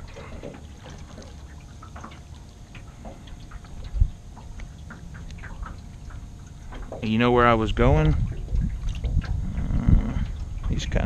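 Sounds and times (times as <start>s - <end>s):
water lapping and dripping: 0.0s - 11.0s.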